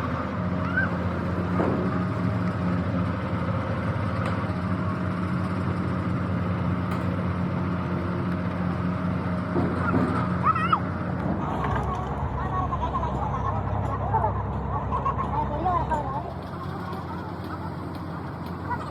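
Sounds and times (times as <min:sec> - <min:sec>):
engine humming: 0:00.0 - 0:18.9.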